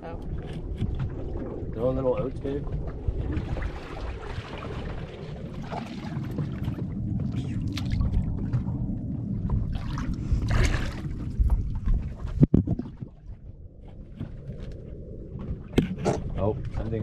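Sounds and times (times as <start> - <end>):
low steady rumble: 0.0 - 17.0
water against boat hull: 0.0 - 17.0
wind buffeting microphone: 0.0 - 17.0.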